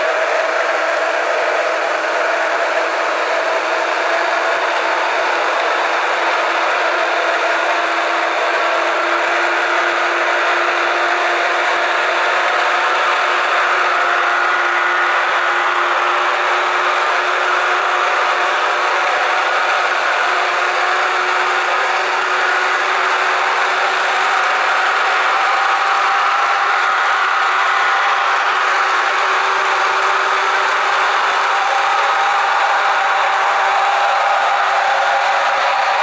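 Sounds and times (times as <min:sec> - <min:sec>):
electric locomotive hum: 0:00.0 - 0:33.8.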